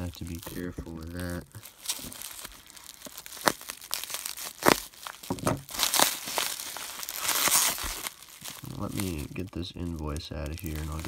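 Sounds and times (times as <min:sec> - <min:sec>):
bubble wrap crinkling: 0:00.0 - 0:11.0
bubble wrap snapping: 0:00.0 - 0:11.0.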